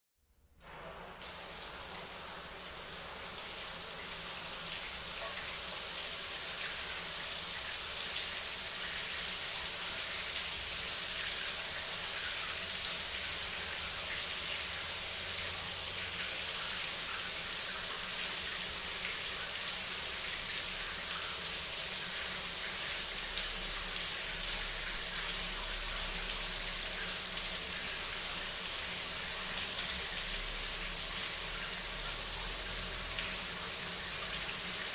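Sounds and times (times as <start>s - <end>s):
shower spray running: 1.0s - 34.9s.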